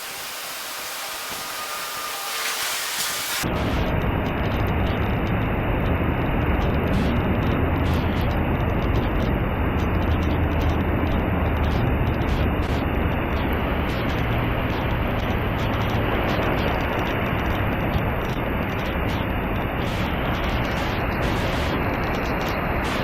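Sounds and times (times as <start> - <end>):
heavy rain: 0.0 - 23.0
low steady rumble: 3.3 - 23.0.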